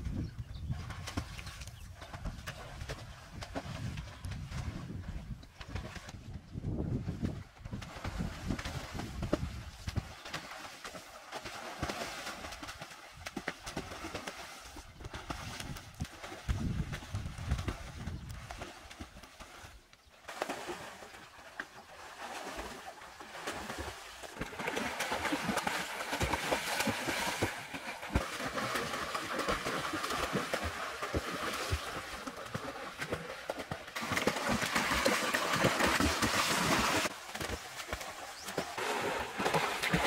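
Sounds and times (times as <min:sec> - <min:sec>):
water splashing from swimmers: 0:07.8 - 0:40.0.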